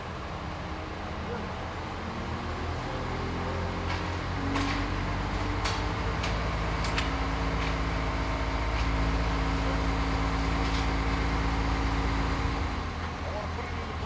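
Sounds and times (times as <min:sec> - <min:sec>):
crane engine humming: 0:00.0 - 0:14.0.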